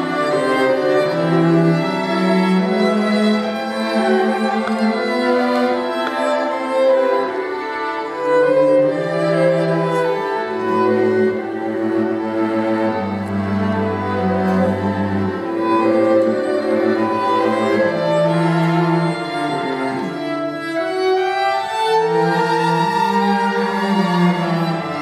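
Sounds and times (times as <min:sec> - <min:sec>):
string quartet bowed chords: 0:00.0 - 0:25.0.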